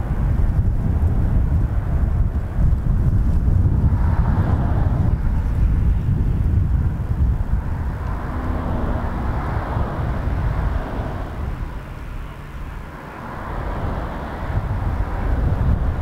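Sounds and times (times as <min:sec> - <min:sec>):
jet engines rushing and rumbling: 0:00.0 - 0:16.0.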